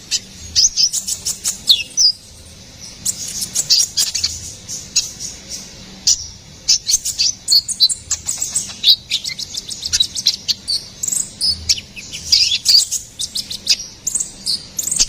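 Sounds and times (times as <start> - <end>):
bird singing high chirps: 0.0 - 15.0.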